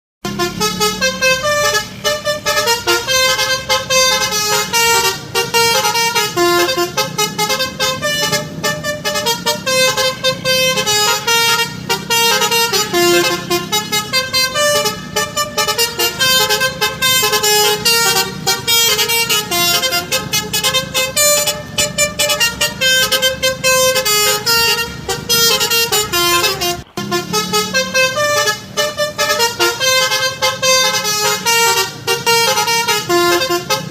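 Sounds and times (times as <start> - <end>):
musical bus horn playing a tune: 0.2 - 33.9.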